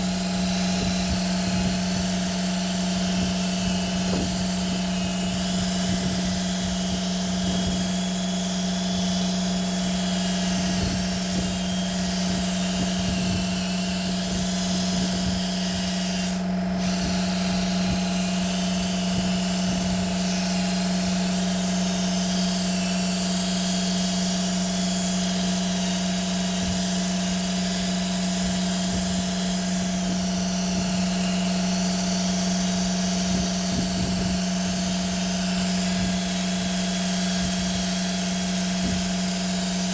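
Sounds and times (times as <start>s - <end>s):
electric power tool humming: 0.0s - 39.9s.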